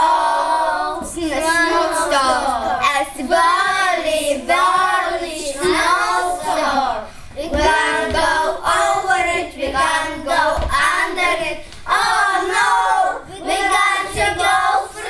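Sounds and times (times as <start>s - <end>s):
children singing and chanting: 0.0s - 15.0s.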